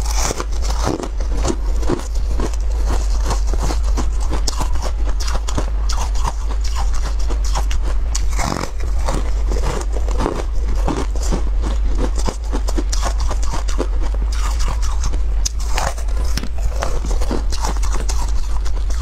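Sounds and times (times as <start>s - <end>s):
biting and chewing crunchy food: 0.0s - 19.0s
low steady hum: 0.0s - 19.0s.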